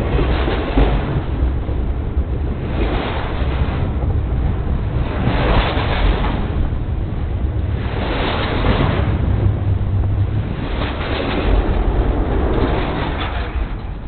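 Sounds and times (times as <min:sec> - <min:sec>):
train rumbling past: 0:00.0 - 0:14.0
wind buffeting microphone: 0:00.0 - 0:14.0.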